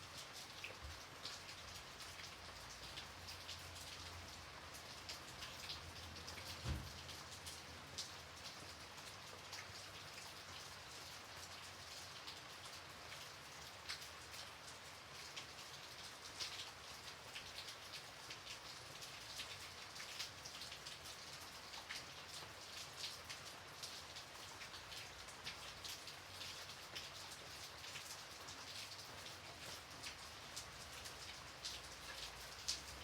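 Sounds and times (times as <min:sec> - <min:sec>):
light rain pattering: 0:00.0 - 0:33.0.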